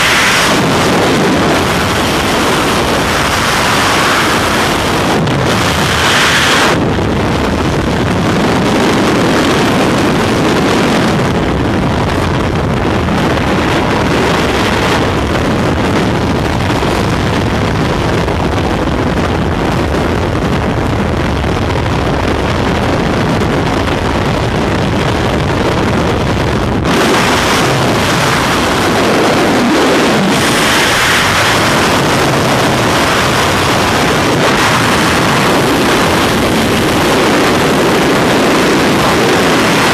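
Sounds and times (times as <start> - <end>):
loud wind rushing over microphone: 0.0 - 39.9.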